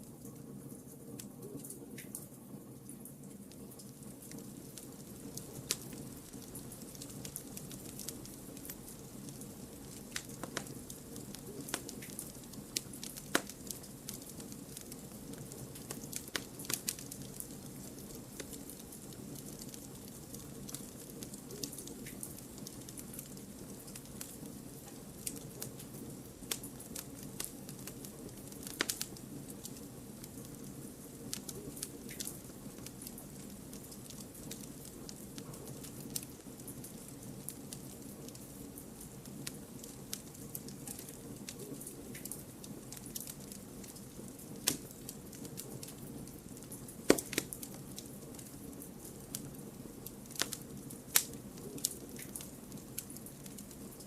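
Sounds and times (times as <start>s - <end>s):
wood crackling and popping: 0.0s - 54.0s
flame rumbling: 3.3s - 54.0s.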